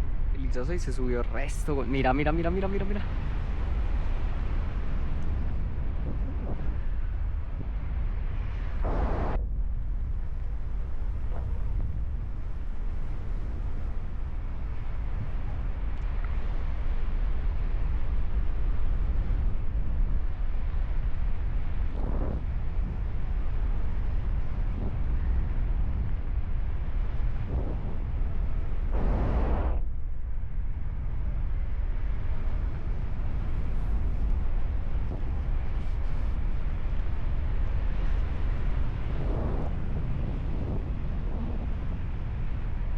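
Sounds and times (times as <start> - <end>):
wind buffeting microphone: 0.0 - 42.9
wind gusts: 0.0 - 42.9.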